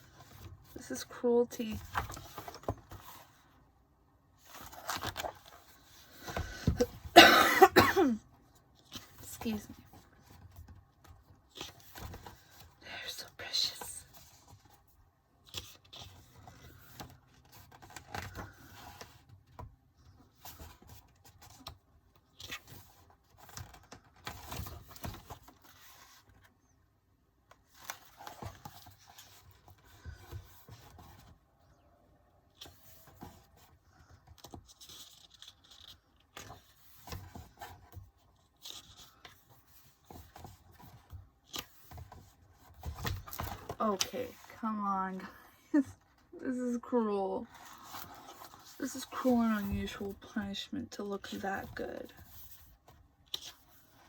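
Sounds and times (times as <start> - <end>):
paper pages rustling and turning: 0.0 - 3.7, 4.3 - 7.1, 8.4 - 26.8, 27.4 - 31.7, 32.5 - 45.3, 47.0 - 54.0.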